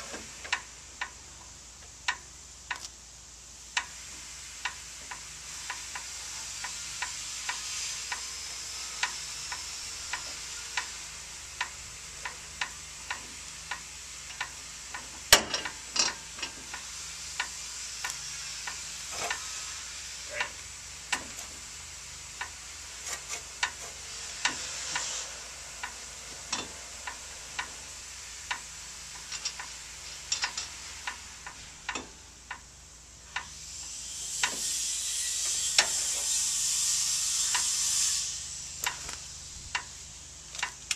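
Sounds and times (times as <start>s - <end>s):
air hiss: 0.0s - 40.9s.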